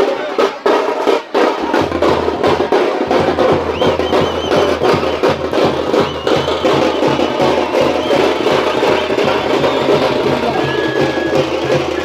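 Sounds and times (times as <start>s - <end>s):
frame drums beaten fast: 0.0s - 12.0s.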